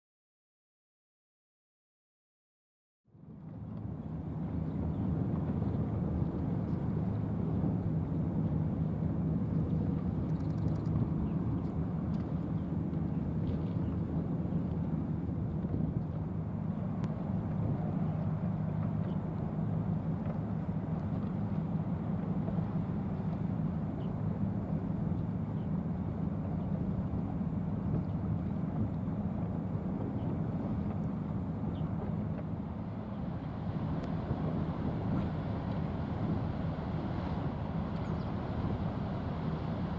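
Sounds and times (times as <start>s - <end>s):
ship diesel engine droning: 3.1s - 39.9s.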